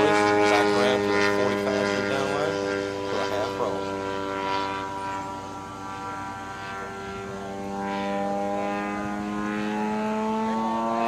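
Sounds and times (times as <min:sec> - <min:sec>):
model airplane motor droning: 0:00.0 - 0:11.0.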